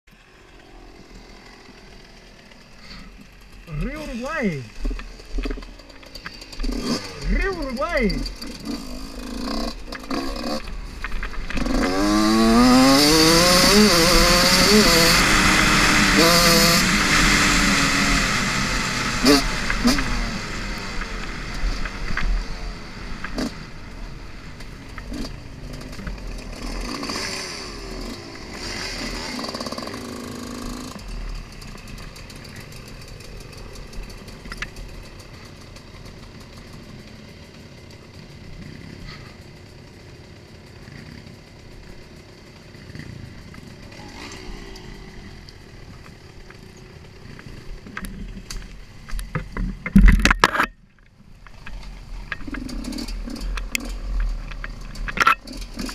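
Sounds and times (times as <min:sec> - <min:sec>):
dirt bike engine revving: 0:00.2 - 0:48.4, 0:51.8 - 0:55.9.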